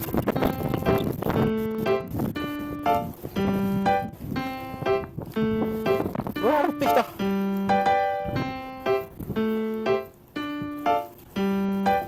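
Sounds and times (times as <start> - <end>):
keyboard melody of held notes: 0.0 - 12.0.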